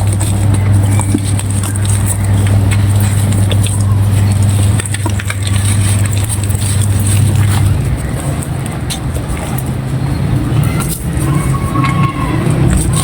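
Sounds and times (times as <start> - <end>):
loud steady low hum: 0.0 - 13.0.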